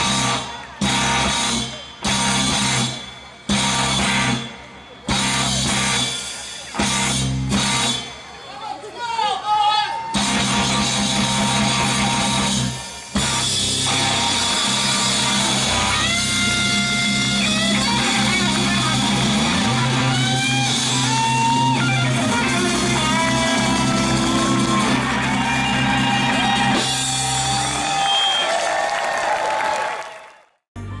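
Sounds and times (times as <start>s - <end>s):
bass guitar: 0.0s - 8.3s, 10.2s - 27.9s, 30.8s - 31.0s
drum kit: 0.0s - 8.3s, 10.1s - 28.2s
lead guitar bending notes: 0.0s - 8.3s, 10.2s - 27.5s.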